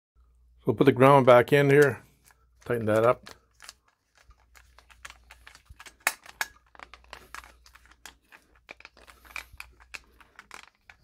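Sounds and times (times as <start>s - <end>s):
wires rustling against metal box: 1.7s - 11.0s.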